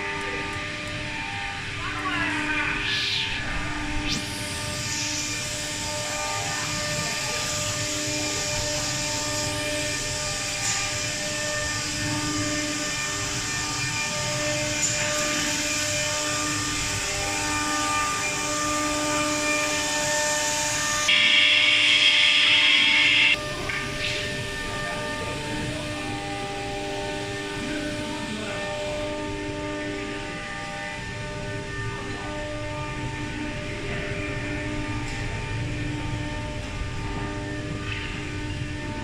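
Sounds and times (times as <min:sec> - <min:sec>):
machinery whining: 0:00.0 - 0:39.0.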